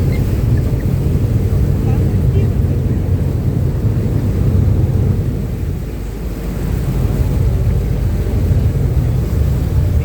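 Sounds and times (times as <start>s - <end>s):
boat engines rumbling: 0.0s - 10.0s
rushing water: 0.0s - 10.0s
wind buffeting microphone: 0.0s - 10.0s.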